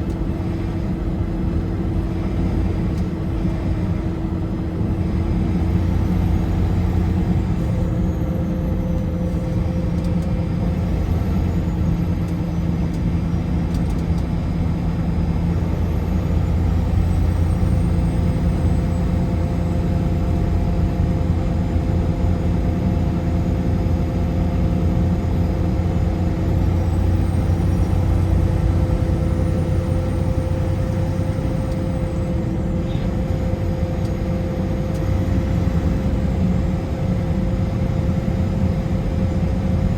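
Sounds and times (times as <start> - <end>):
car driving at speed: 0.0 - 39.9.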